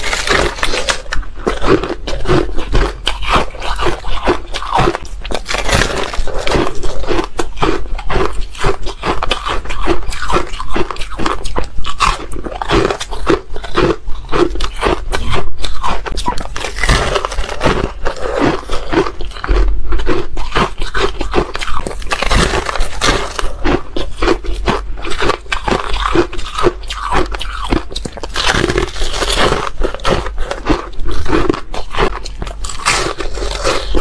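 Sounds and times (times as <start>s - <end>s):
crunching ice: 0.0s - 34.0s.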